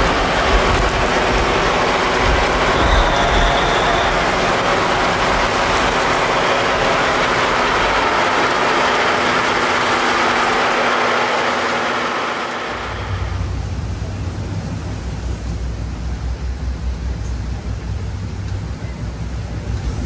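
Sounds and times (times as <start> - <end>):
steady low hum: 0.0 - 20.0
storm wind and heavy rain: 0.0 - 20.0.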